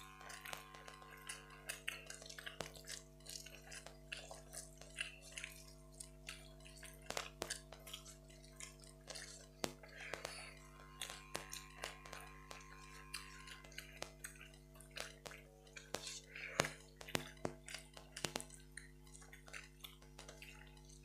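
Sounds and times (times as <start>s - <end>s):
chewing: 0.0s - 21.0s
fingers mixing food on plates: 0.0s - 21.0s
steady hum: 0.0s - 21.0s.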